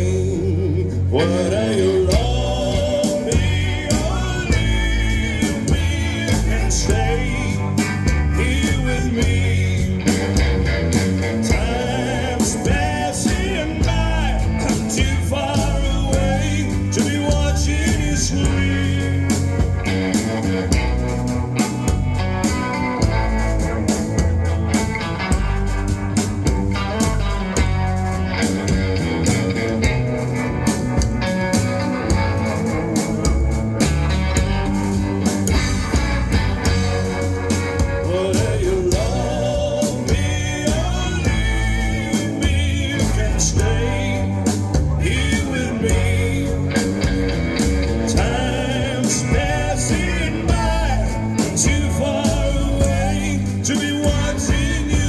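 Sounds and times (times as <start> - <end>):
electric guitar bending notes: 0.0 - 55.0
rockabilly band playing: 0.0 - 55.0.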